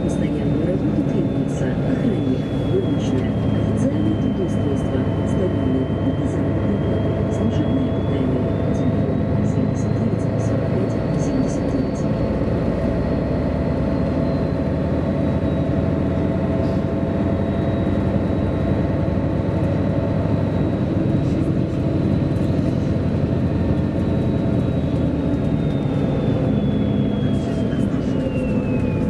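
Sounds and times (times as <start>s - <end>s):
bus diesel engine drone: 0.0s - 29.0s.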